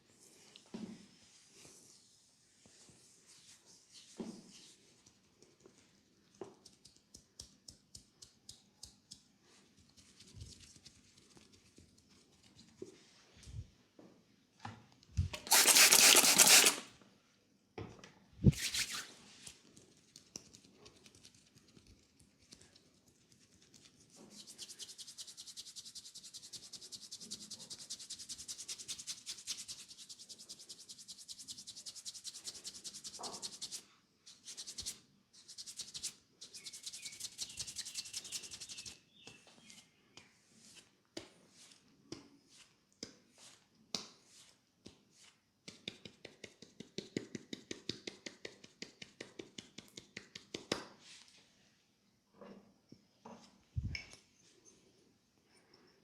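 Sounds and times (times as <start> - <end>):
hands rubbing scalp and hair: 1.2 - 13.6, 15.2 - 16.9, 18.4 - 51.4.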